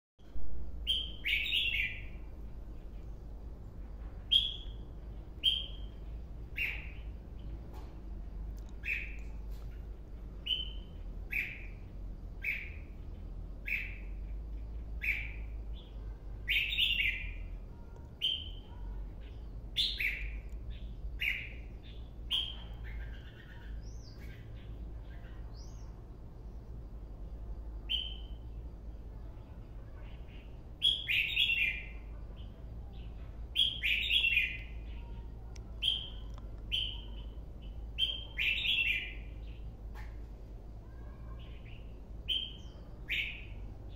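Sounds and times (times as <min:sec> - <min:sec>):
bird chirping and singing: 0:00.8 - 0:03.1, 0:04.3 - 0:07.6, 0:08.6 - 0:14.3, 0:14.9 - 0:26.0, 0:30.2 - 0:40.1, 0:41.0 - 0:43.9.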